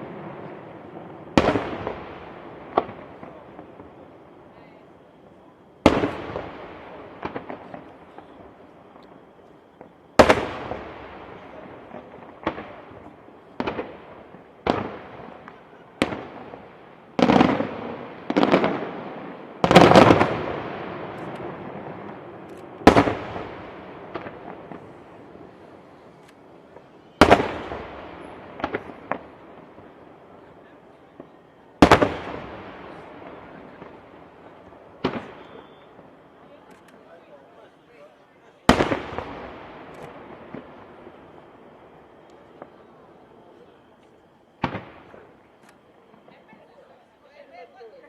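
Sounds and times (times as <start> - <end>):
fireworks bangs with echo: 0.0 - 46.8.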